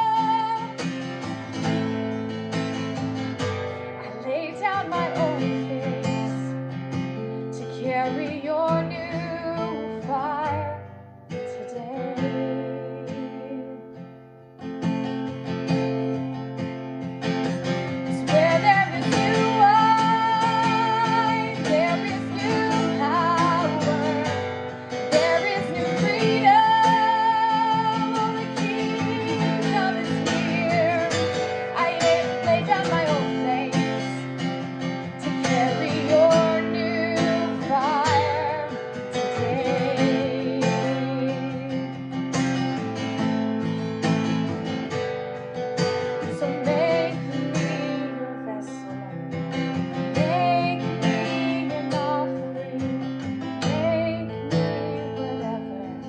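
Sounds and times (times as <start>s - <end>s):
woman singing: 0.0s - 14.1s, 15.5s - 56.0s
strummed acoustic guitar: 0.0s - 56.0s.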